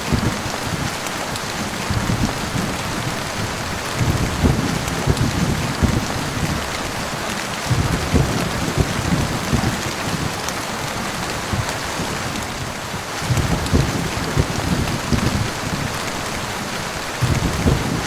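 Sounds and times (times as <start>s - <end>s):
heavy rain hissing: 0.0s - 18.0s
low rolling thunder: 0.0s - 18.0s.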